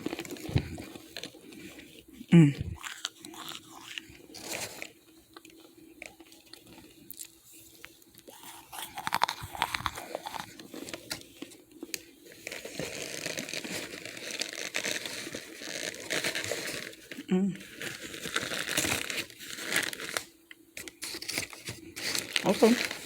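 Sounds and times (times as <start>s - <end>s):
bag crinkling: 0.0s - 7.4s, 8.2s - 23.0s.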